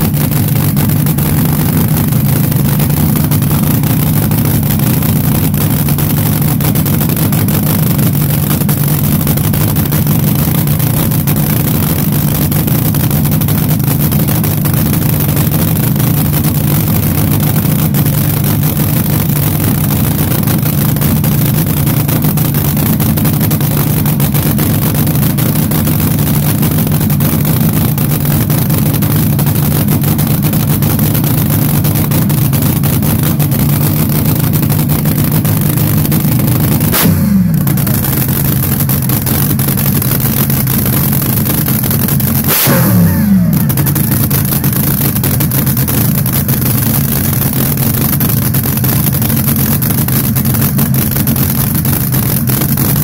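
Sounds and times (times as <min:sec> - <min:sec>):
loud engine idling and revving: 0:00.0 - 0:53.0.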